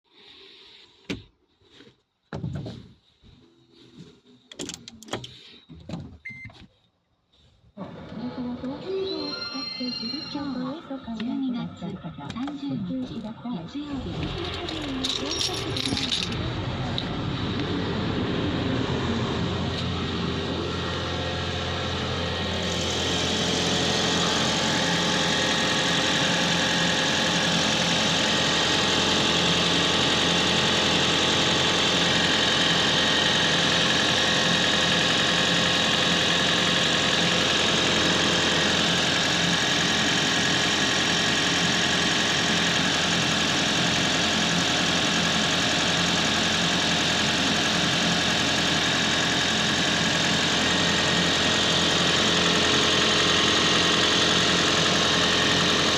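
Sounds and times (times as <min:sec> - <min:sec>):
car engine running: 0:11.1 - 0:55.9.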